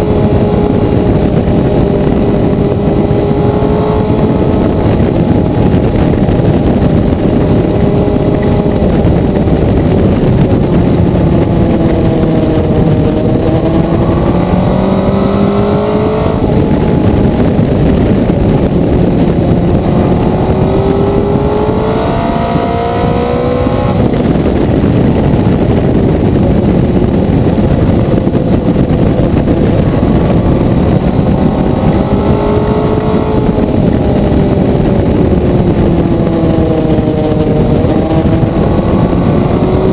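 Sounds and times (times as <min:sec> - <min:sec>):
motorcycle engine accelerating: 0:00.0 - 0:39.9
wind rush over microphone: 0:00.0 - 0:39.9.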